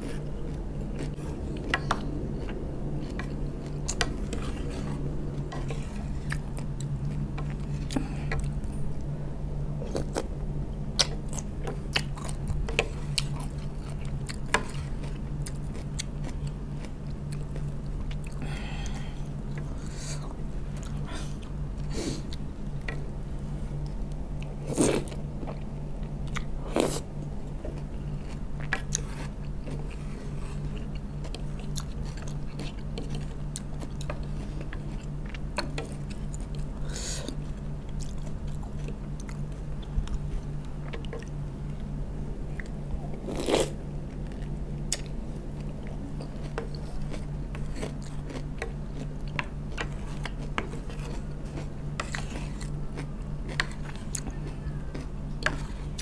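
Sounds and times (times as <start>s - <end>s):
chewing crunchy vegetables: 0.0s - 9.1s, 9.8s - 56.0s
steady low hum: 0.0s - 56.0s.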